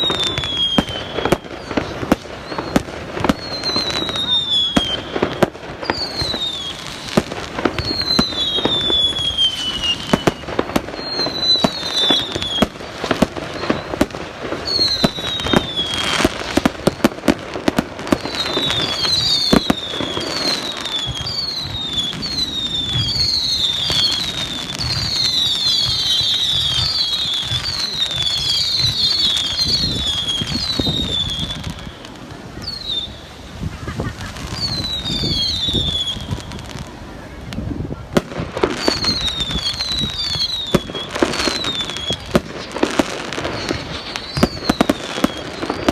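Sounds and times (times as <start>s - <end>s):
firework bangs and crackles: 0.0s - 45.9s
whistling fireworks: 0.0s - 45.9s.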